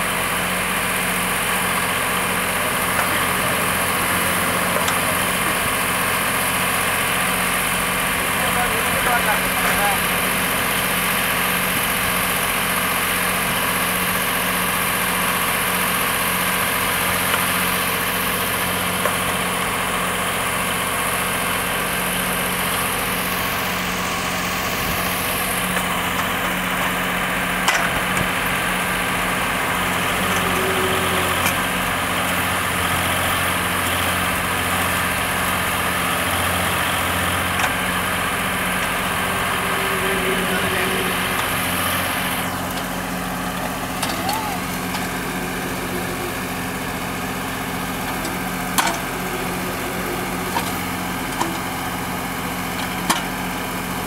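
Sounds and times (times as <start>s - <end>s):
tractor diesel engine running: 0.0s - 54.0s
backhoe digging soil: 0.1s - 21.4s, 22.0s - 54.0s.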